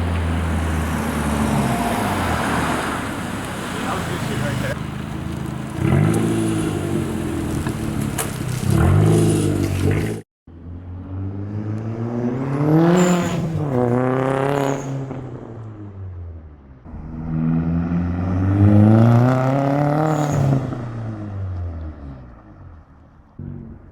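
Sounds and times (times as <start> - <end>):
car engine revving: 0.0 - 16.2, 16.9 - 23.9.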